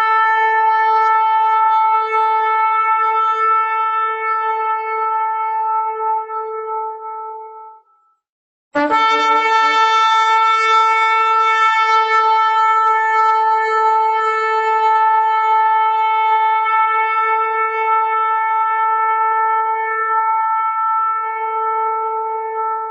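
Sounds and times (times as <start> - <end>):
shofar blowing: 0.0 - 8.0, 8.8 - 22.9.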